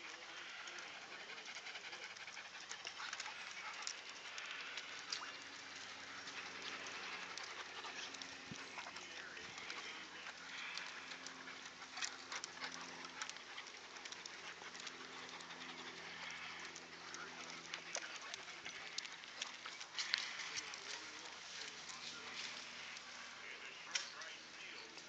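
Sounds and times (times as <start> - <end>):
dogs panting: 0.0 - 25.0.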